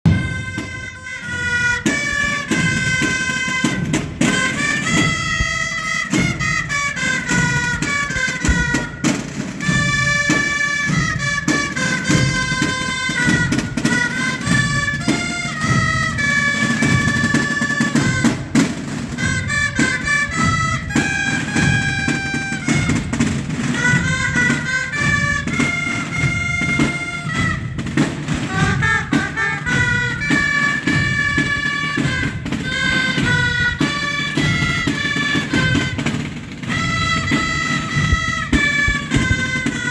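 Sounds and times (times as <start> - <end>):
continuous drumming: 0.0 - 39.9
high wind instruments melody: 0.0 - 39.9.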